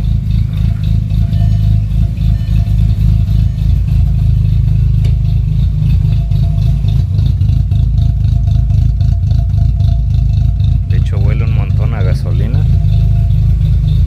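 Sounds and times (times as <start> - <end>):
engine idling unevenly: 0.0 - 14.0.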